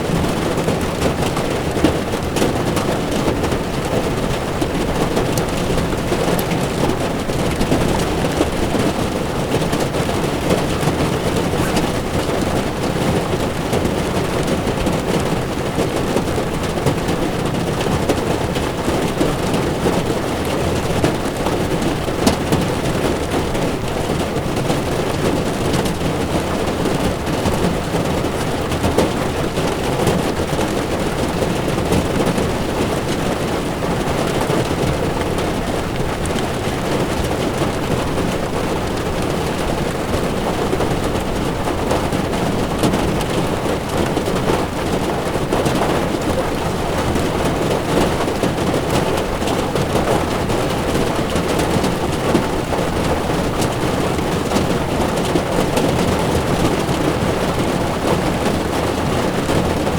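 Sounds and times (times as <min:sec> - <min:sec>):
heavy rain on windshield: 0:00.0 - 0:59.9
tyres on wet road: 0:00.0 - 0:59.9.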